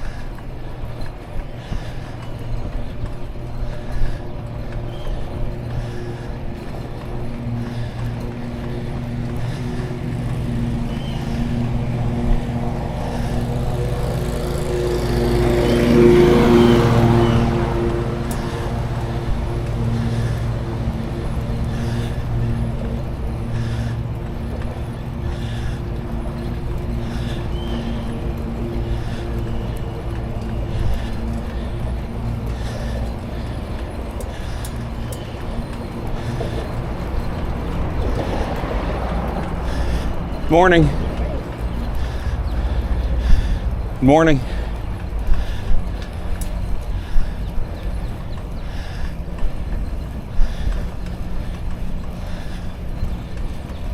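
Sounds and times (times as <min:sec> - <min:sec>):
engine running: 0:00.0 - 0:53.9
steady low hum: 0:00.0 - 0:53.9
wind and tyre rumble: 0:00.0 - 0:53.9.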